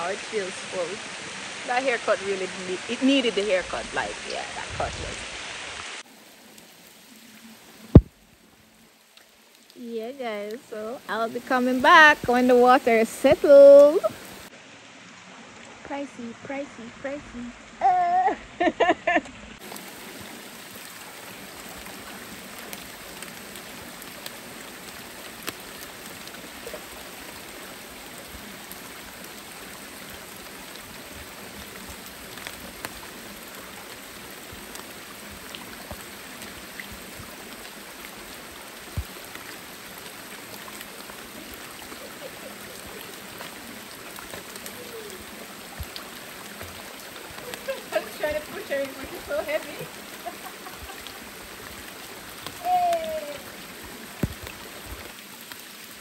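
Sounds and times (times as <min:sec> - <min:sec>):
river running over rocks: 0:00.0 - 0:18.3, 0:19.3 - 0:56.0
faint ticks and drips: 0:06.0 - 0:14.4, 0:18.8 - 0:56.0.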